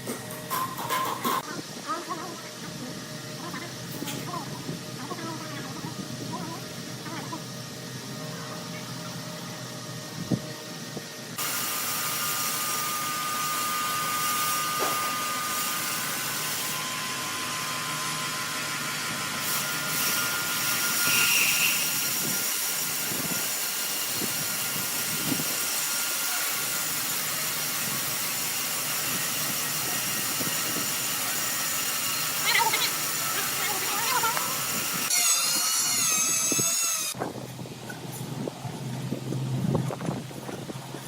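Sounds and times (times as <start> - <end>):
woodworking power tool running: 1.6 - 37.2.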